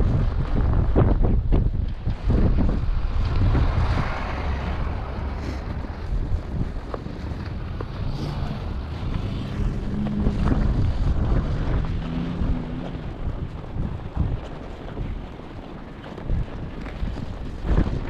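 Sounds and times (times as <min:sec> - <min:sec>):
blizzard wind buffeting microphone: 0:00.0 - 0:18.0.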